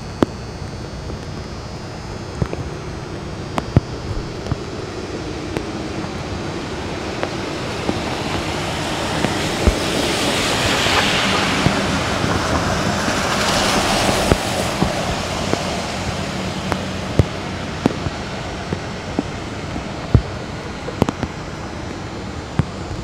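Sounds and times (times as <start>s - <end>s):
passing vehicle rumble: 2.7s - 23.0s.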